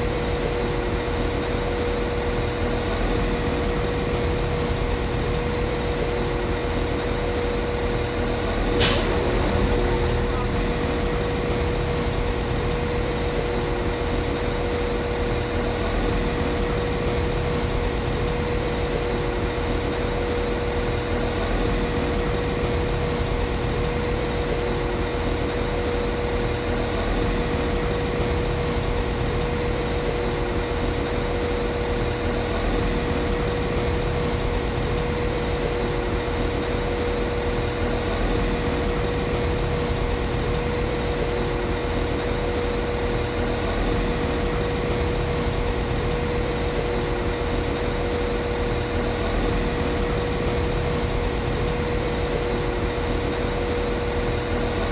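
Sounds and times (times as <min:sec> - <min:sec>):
constant hum: 0:00.0 - 0:54.9.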